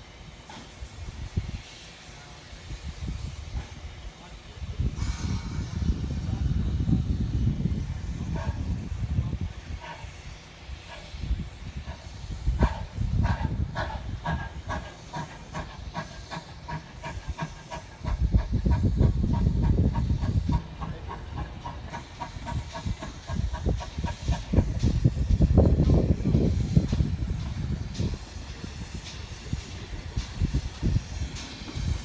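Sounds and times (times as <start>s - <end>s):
steam hissing: 0.0s - 32.0s
steam locomotive chugging: 0.0s - 32.0s.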